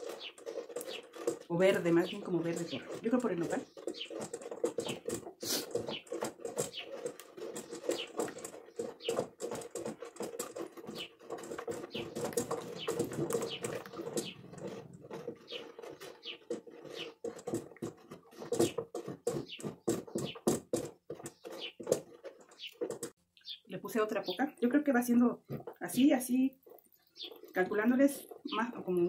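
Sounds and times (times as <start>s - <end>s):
stick scraping metal bucket: 0.0s - 23.2s, 24.2s - 29.0s.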